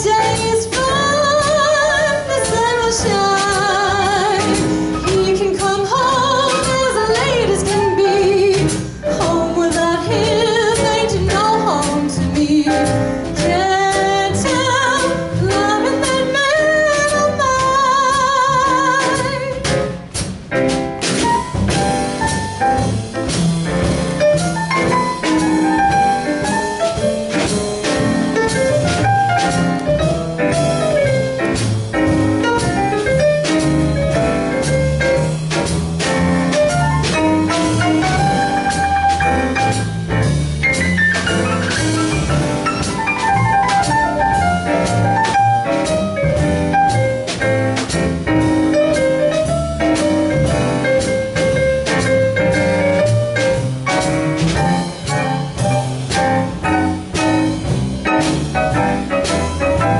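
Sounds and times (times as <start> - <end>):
drum kit: 0.0 - 59.9
electric piano melodic runs: 0.0 - 59.9
upright bass: 0.0 - 59.9.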